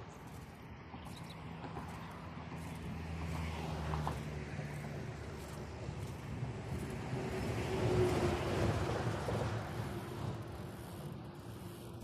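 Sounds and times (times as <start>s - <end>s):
road vehicle passing: 0.0s - 12.0s.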